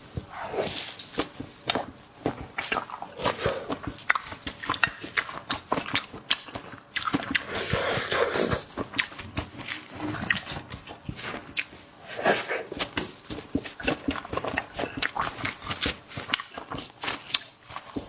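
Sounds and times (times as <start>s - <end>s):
sucking slurping: 0.2s - 15.7s
wet chewing and lip smacks: 0.6s - 18.0s.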